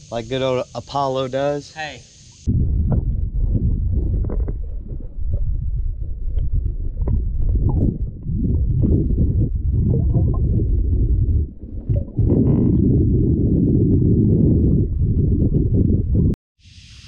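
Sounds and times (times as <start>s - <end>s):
wind buffeting microphone: 2.5s - 16.4s.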